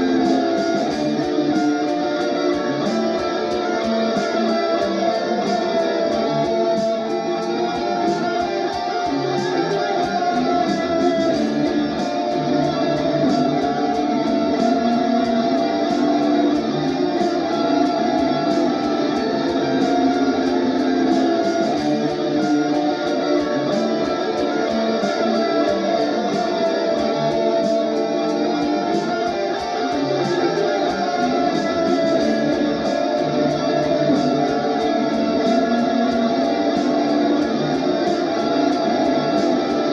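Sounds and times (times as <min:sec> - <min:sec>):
drum machine beat: 0:00.0 - 0:39.9
electric guitar improvising: 0:00.0 - 0:39.9.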